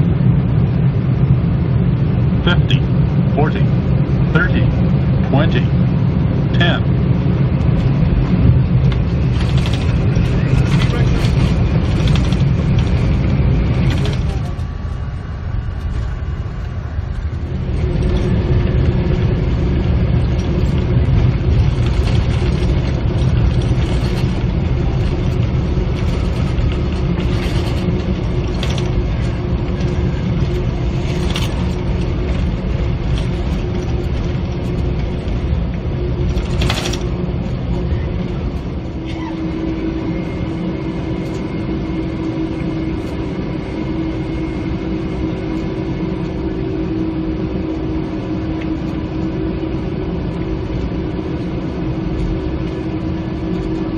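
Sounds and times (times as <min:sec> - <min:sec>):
engines and wheels rumbling: 0:00.0 - 0:53.9
steady hum: 0:00.0 - 0:53.9.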